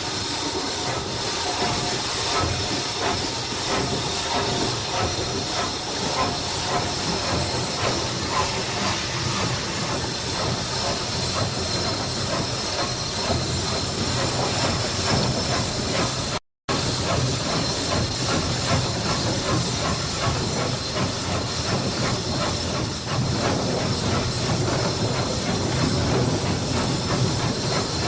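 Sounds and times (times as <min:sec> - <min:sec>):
steam hissing: 0:00.0 - 0:28.0
train running noise: 0:00.0 - 0:28.0.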